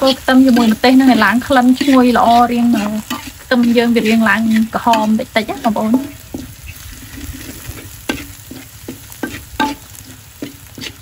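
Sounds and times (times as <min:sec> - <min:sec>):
food sizzling in oil: 0:00.0 - 0:11.0
ladle clinking against wok: 0:00.0 - 0:11.0
metal ladle scraping wok: 0:00.0 - 0:11.0.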